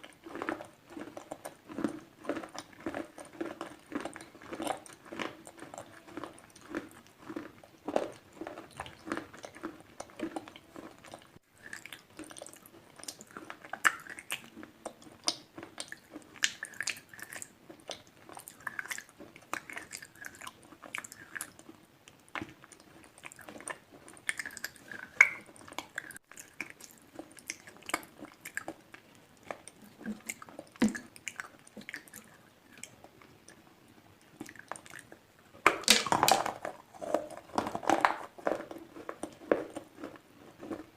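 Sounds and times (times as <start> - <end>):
person chewing slate pencil: 0.0 - 35.2, 36.2 - 40.9.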